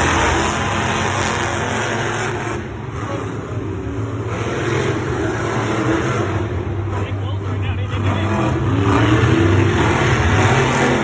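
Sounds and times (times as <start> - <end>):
monster truck engines running: 0.0 - 11.0.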